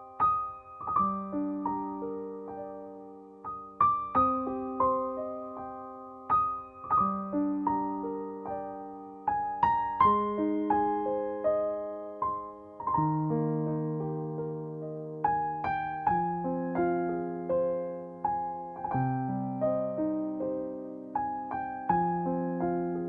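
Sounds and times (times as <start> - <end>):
slow solo piano: 0.0 - 23.0.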